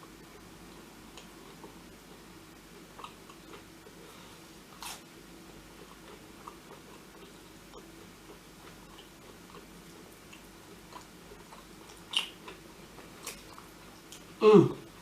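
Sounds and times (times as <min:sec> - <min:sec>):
person chewing food: 0:00.7 - 0:14.4.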